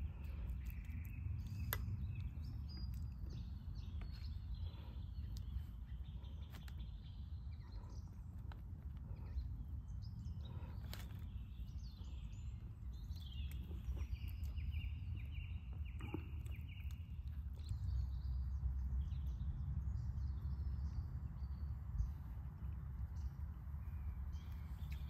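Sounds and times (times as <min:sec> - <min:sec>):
songbirds singing: 0:00.0 - 0:25.0
steady low rumble: 0:00.0 - 0:25.0.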